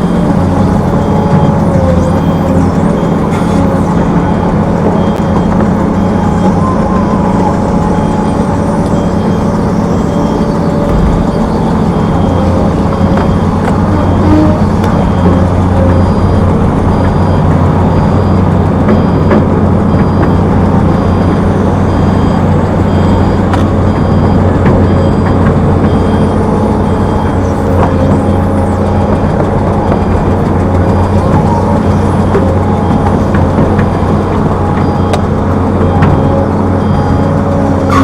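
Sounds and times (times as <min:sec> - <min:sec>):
heavy diesel engine running: 0:00.0 - 0:38.0
reversing alarm beeping: 0:00.0 - 0:38.0.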